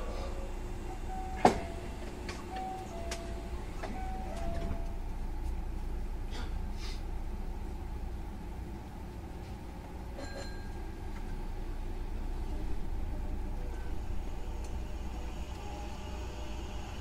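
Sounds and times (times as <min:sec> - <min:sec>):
train interior low rumble: 0:00.0 - 0:17.0.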